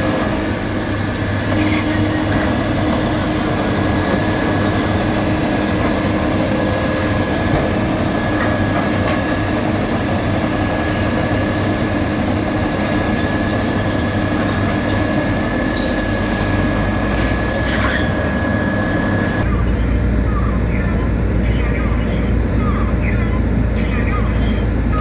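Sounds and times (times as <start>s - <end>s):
construction machinery engine rumble: 0.0s - 25.0s.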